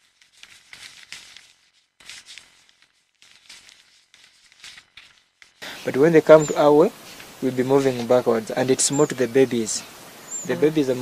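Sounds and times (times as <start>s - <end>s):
faint rustling and crackling: 0.0s - 11.0s.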